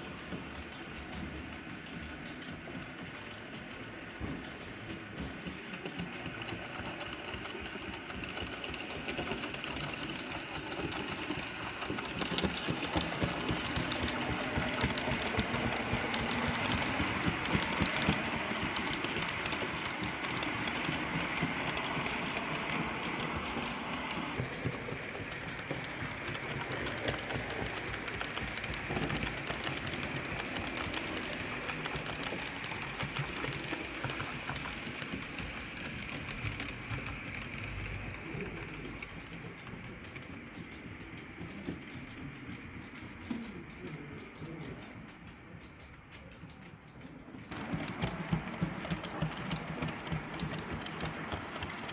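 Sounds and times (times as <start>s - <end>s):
model train wheels clicking on rail: 0.0s - 51.9s.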